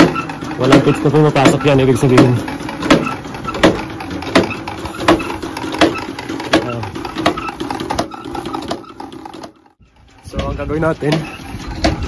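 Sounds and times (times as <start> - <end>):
auger humming: 0.0 - 12.0
auger knocking: 0.0 - 12.0.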